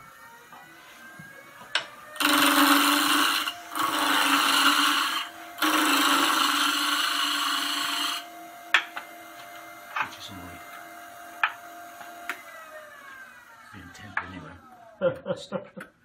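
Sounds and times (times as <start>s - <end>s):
lathe humming: 0.0s - 15.0s
gouge cutting spinning wood: 1.2s - 14.9s.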